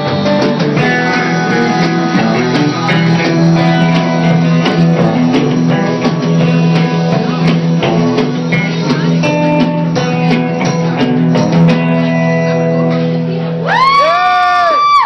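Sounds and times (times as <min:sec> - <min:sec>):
live band music: 0:00.0 - 0:13.9
strummed guitar: 0:00.0 - 0:14.0.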